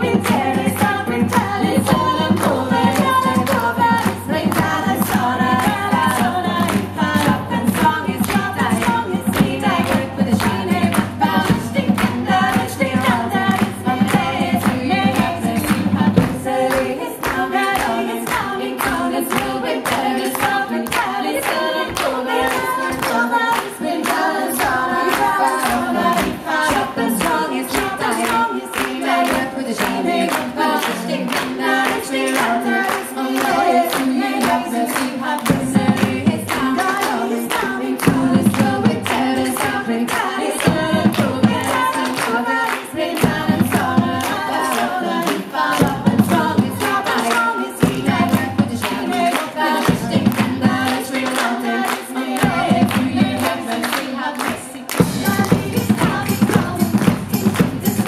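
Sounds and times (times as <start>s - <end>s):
female vocal ensemble singing: 0.0s - 58.0s
rhythmic hand-clapping: 0.0s - 58.0s.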